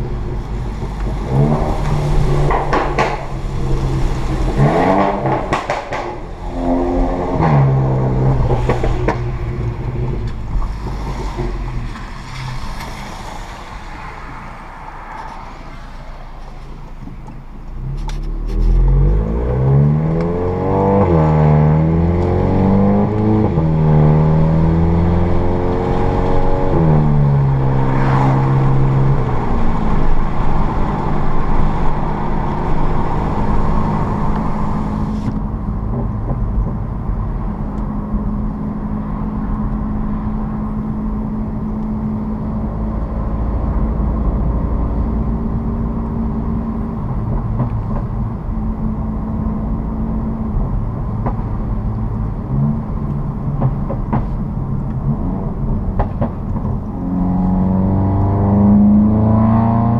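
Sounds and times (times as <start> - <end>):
car engine accelerating through upshifts: 0.2 - 12.0, 17.2 - 35.4, 38.9 - 59.9.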